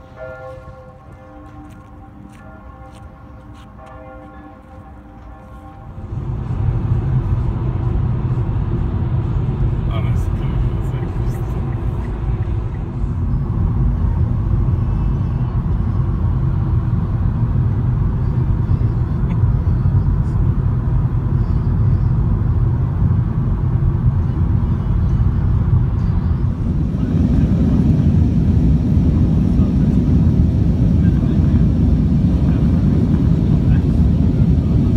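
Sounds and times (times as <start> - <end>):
airliner cabin drone: 0.0 - 34.9
car road and engine rumble: 0.0 - 34.9.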